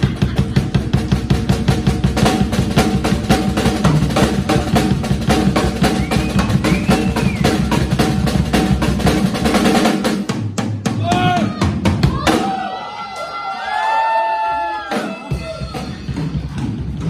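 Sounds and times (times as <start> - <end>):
drum kit playing: 0.0 - 12.8, 14.6 - 17.0.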